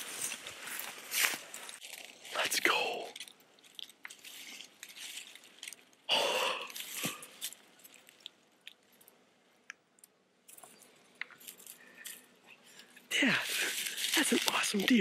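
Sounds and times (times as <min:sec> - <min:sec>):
dry grass and leaves rustling: 0:00.0 - 0:09.2, 0:10.5 - 0:15.0.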